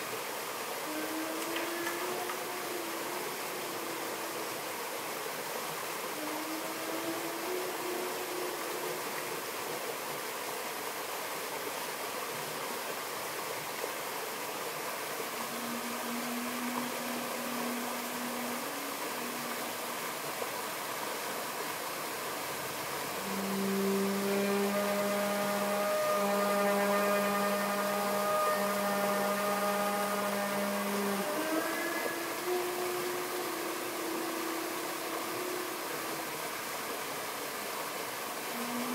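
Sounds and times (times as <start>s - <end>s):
stream rushing over rocks: 0.0s - 38.9s
saxophone low notes: 0.7s - 10.0s, 15.2s - 37.6s, 38.3s - 38.9s.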